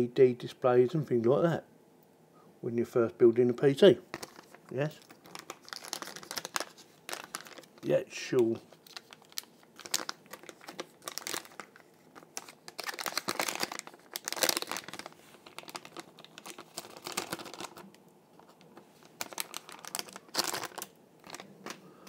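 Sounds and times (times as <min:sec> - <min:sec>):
plastic bag crinkling: 0:04.1 - 0:22.0.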